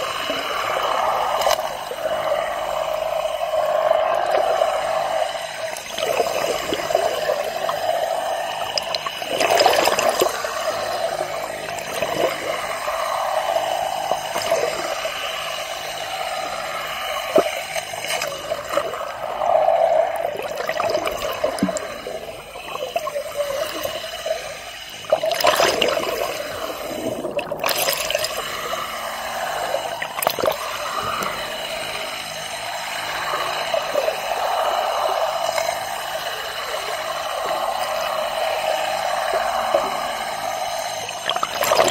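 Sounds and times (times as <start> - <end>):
constant steady hum: 0.0 - 41.9
underwater water sloshing and gurgling: 0.0 - 41.9.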